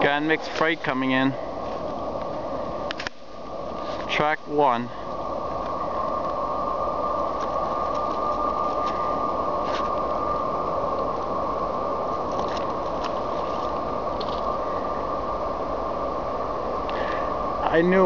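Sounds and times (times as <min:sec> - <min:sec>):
high whine: 0:00.0 - 0:18.0.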